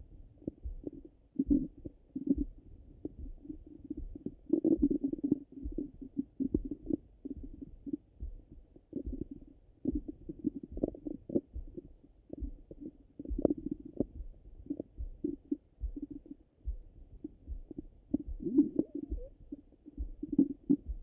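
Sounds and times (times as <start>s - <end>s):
muffled stomach gurgles: 0.0s - 21.0s.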